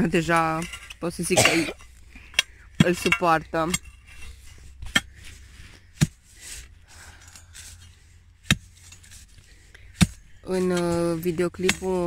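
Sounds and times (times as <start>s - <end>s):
metal digging tool striking soil: 0.0s - 6.7s, 7.3s - 12.0s
faint scraping of earth: 0.0s - 12.0s.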